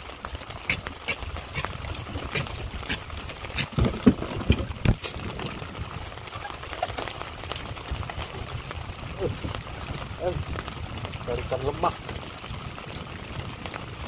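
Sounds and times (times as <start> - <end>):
light drizzle: 0.0 - 14.0
wind rumble: 0.0 - 14.0.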